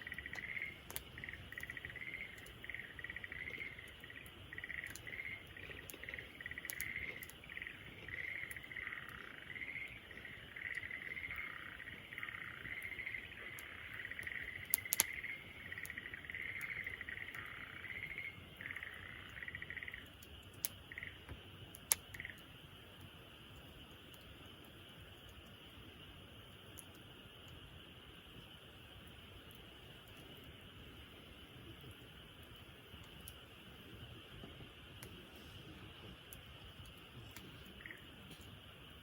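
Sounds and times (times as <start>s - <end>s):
fire hiss: 0.0s - 39.0s
wood fire popping: 0.0s - 39.0s.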